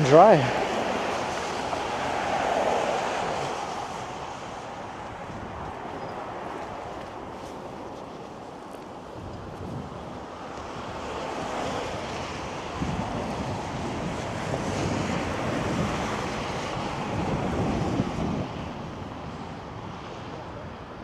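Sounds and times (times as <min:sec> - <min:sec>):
traffic tyre noise on slush: 0:00.0 - 0:21.0
wind buffeting microphone: 0:00.0 - 0:21.0.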